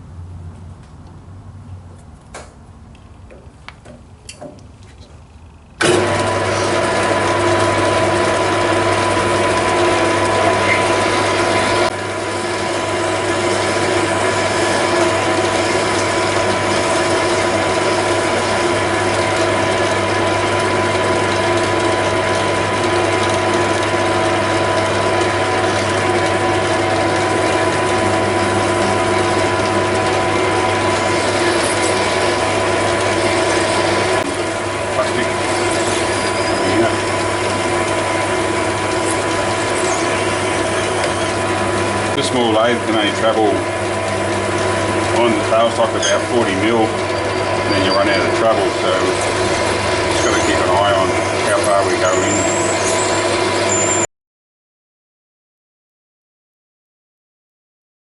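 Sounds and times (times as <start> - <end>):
gear train whining: 3.2 - 54.1
lathe motor humming: 5.4 - 54.1.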